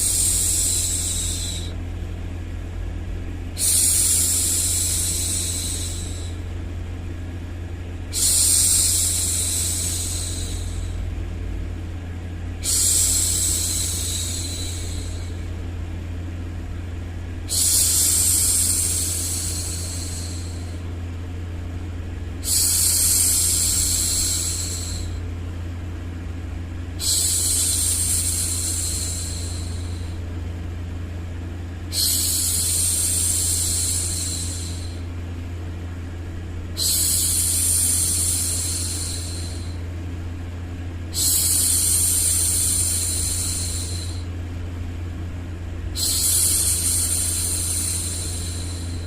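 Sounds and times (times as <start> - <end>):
low white noise hum: 0.0 - 49.0.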